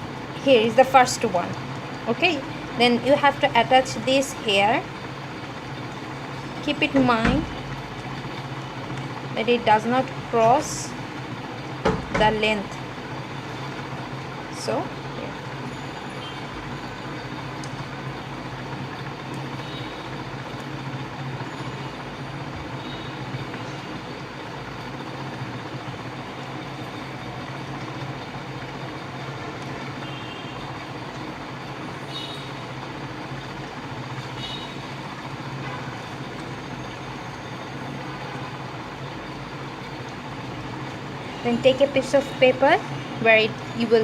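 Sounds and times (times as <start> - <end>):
steady background hum and hiss: 0.0 - 44.0.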